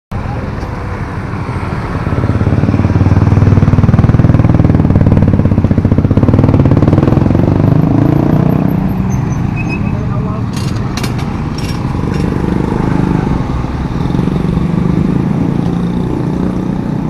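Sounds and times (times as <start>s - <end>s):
motorcycle engines passing: 0.2s - 17.0s.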